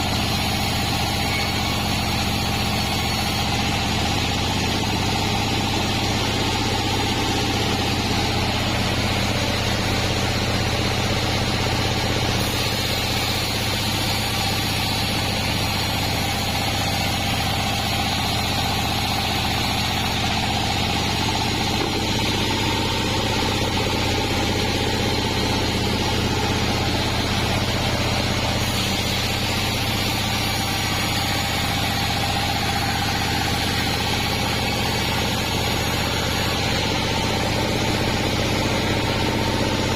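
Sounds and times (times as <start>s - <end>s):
band sawmill droning: 0.0s - 39.9s.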